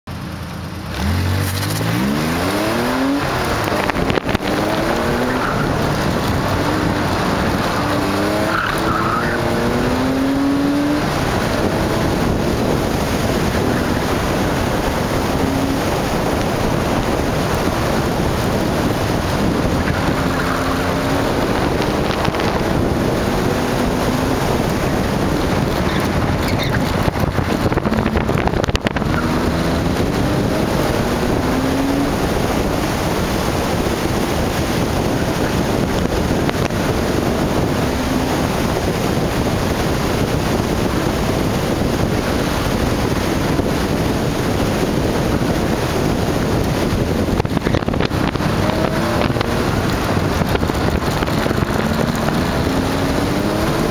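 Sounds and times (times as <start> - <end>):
wind and road noise: 0.0 - 53.9
car engine accelerating hard: 0.1 - 53.9.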